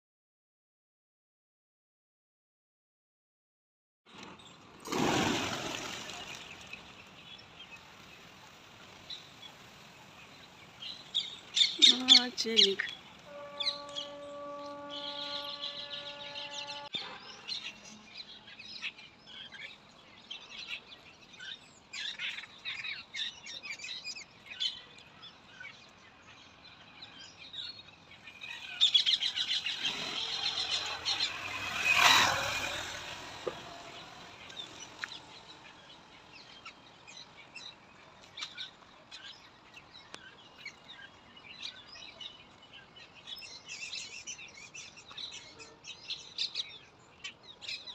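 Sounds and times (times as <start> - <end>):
small birds chirping: 5.8 - 47.9.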